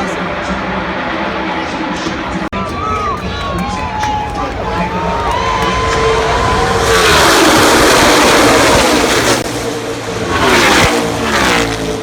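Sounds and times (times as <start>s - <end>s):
race cars passing at full throttle: 0.0s - 12.0s.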